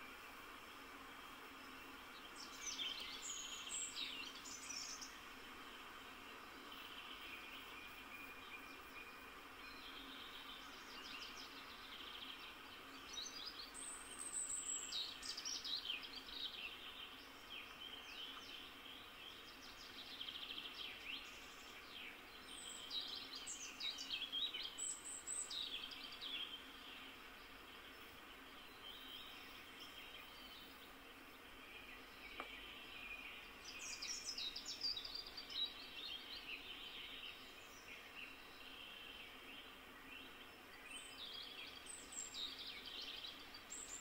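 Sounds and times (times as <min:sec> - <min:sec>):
birdsong whistles and trills: 0:00.0 - 0:44.0
faint steady hiss: 0:00.0 - 0:44.0.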